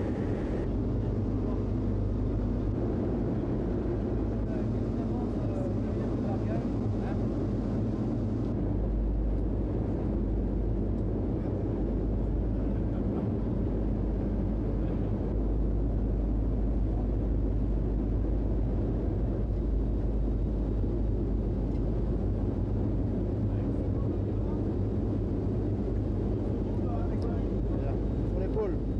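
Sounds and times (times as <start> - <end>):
aircraft engine drone: 0.0 - 28.9.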